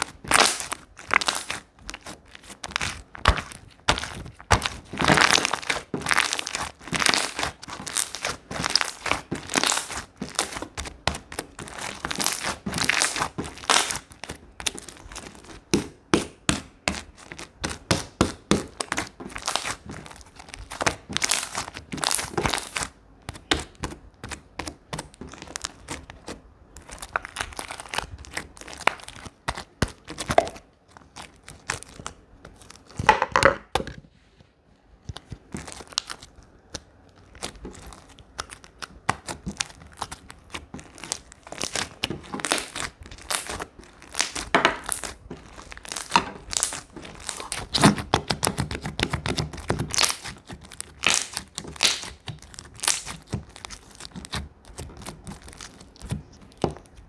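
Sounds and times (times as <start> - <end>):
slime crackling and popping: 0.0 - 34.0, 35.0 - 57.0.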